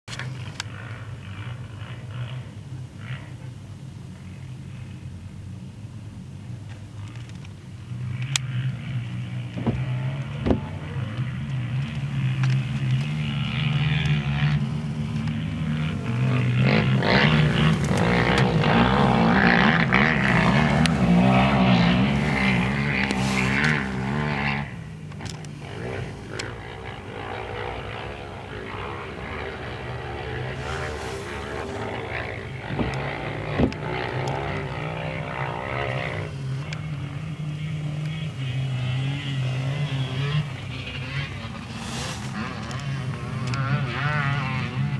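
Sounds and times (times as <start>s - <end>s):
steady engine drone: 0.0s - 44.9s
quad engines revving: 7.0s - 44.9s.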